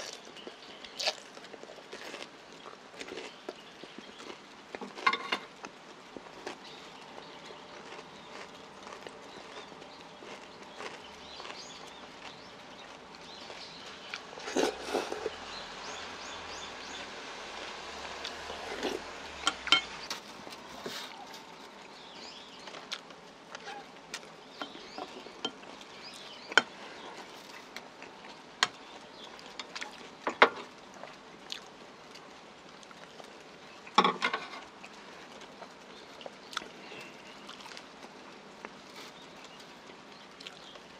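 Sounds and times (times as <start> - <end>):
chewing noises: 0.0 - 15.7, 16.9 - 40.9
steady background hiss: 0.0 - 40.9.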